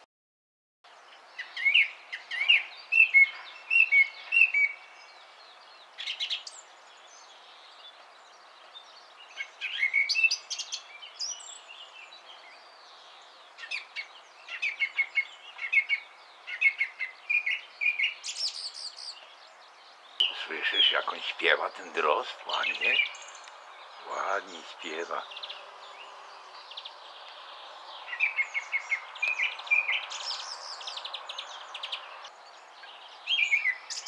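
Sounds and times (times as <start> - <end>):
song thrush singing: 0.9 - 34.0.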